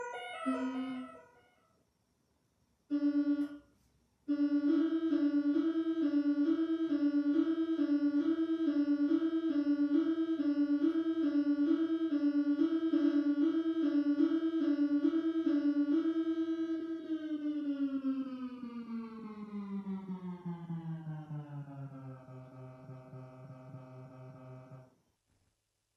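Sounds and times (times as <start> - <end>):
two-tone alarm signal: 0.0 - 1.5, 2.9 - 3.6, 4.3 - 24.9.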